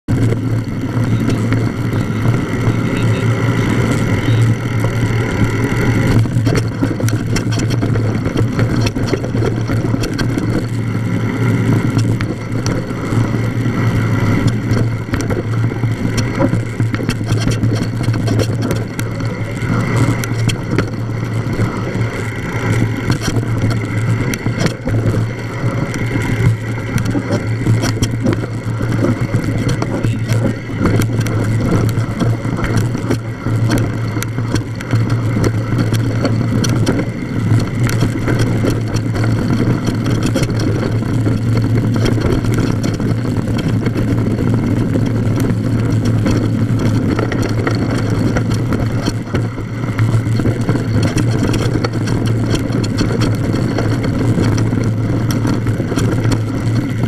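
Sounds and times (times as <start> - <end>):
wind rushing over microphone: 0.0 - 57.0
bike knocks and rattles: 0.1 - 57.0.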